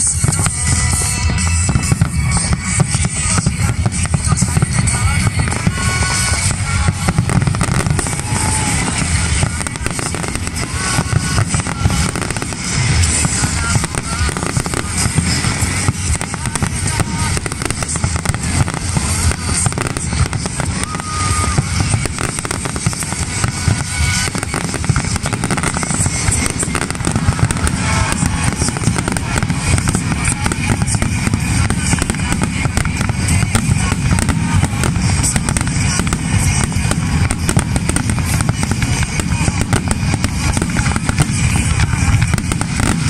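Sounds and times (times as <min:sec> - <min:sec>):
fireworks booms and crackles: 0:00.0 - 0:43.0
music playing: 0:00.0 - 0:43.0.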